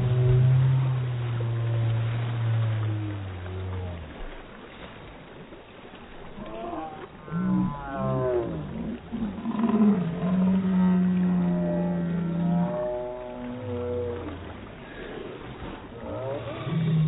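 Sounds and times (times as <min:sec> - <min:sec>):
slowed-down deep voices: 0:00.0 - 0:04.2, 0:06.4 - 0:17.0.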